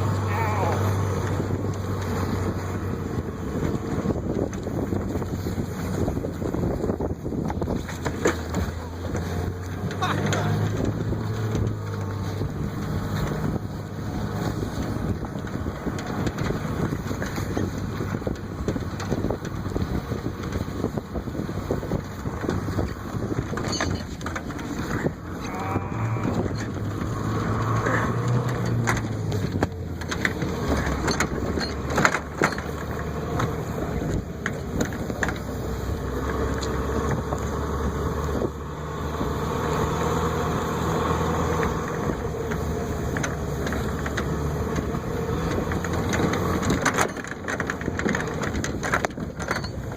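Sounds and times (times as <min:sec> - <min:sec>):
pickup truck engine running: 0:00.0 - 0:49.9
rough crunching rumble with knocks: 0:00.0 - 0:49.9.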